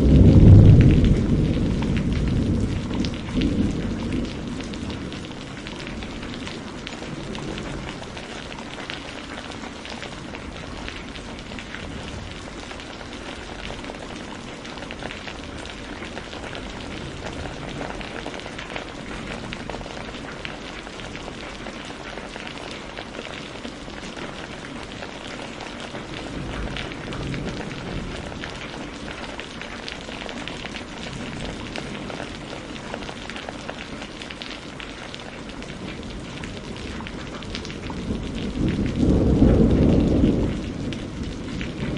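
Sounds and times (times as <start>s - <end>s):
steady rain on a surface: 0.0s - 41.9s.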